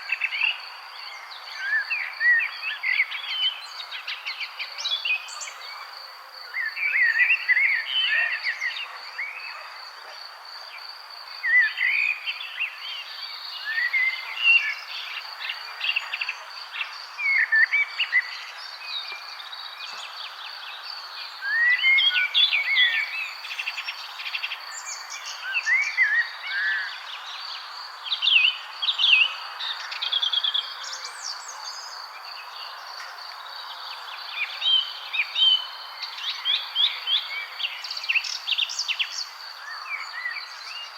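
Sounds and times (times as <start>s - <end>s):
background hiss: 0.0s - 40.9s
songbirds chirping: 0.0s - 40.9s.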